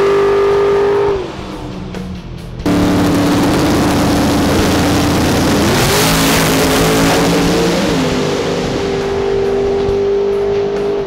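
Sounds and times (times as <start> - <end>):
race car engines at full throttle: 0.0 - 11.0.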